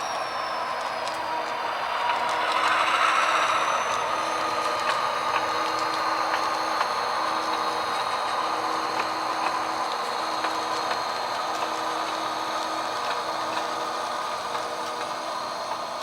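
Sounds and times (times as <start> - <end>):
model train mechanical hum: 0.0 - 16.0.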